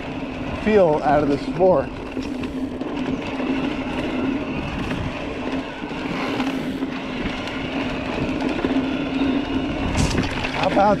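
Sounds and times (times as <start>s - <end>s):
electric motor humming: 0.0s - 11.0s
tyres on dirt trail: 0.0s - 11.0s
wind noise: 0.0s - 11.0s
bike knocks and rattles: 0.6s - 11.0s.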